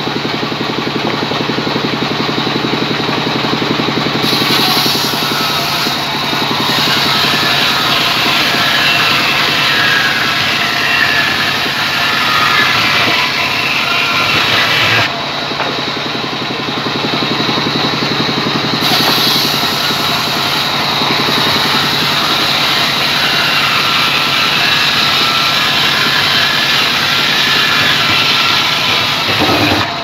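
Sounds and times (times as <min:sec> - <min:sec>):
band saw cutting log: 0:02.7 - 0:30.0.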